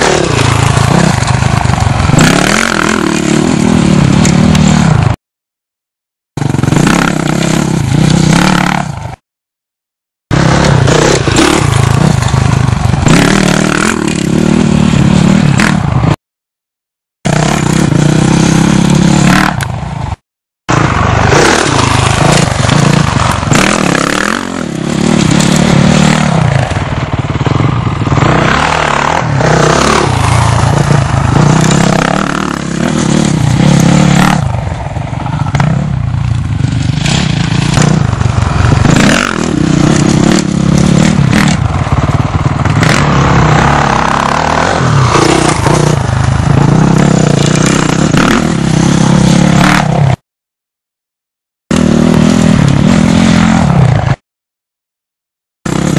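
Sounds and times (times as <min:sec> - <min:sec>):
dirt bike engine revving: 0:00.0 - 0:05.2, 0:06.4 - 0:09.2, 0:10.3 - 0:16.2, 0:17.3 - 0:50.2, 0:51.7 - 0:54.2, 0:55.7 - 0:55.9.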